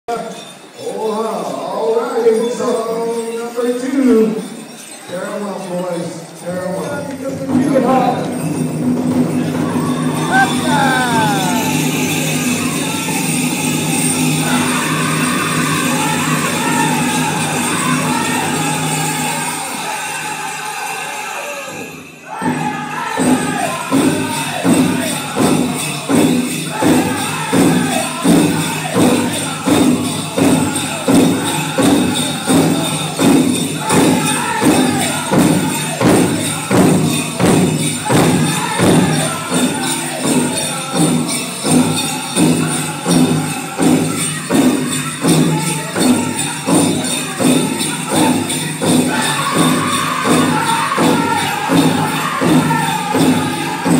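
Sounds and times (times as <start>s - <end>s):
bells jingling: 0.0s - 53.9s
drum group singing: 6.8s - 53.9s
big drum beaten steadily: 7.2s - 20.0s, 22.4s - 53.9s.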